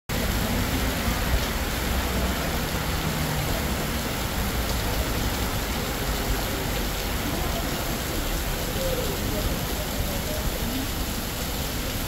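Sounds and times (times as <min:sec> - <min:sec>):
heavy rain on pavement: 0:00.1 - 0:12.0
low rumble of traffic: 0:00.1 - 0:12.0.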